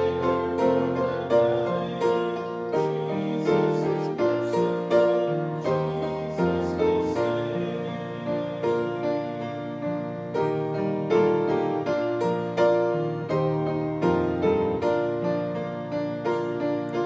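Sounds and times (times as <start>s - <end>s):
piano playing hymn chords: 0.0s - 17.0s.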